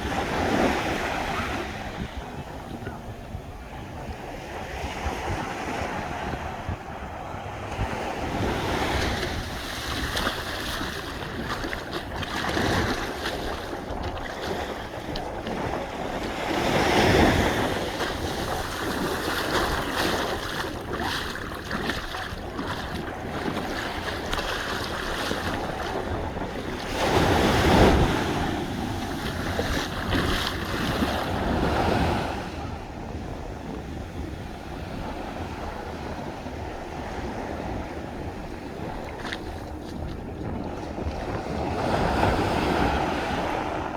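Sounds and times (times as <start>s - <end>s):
ocean waves washing onto beach: 0.0s - 43.9s
wind buffeting microphone: 0.0s - 43.9s.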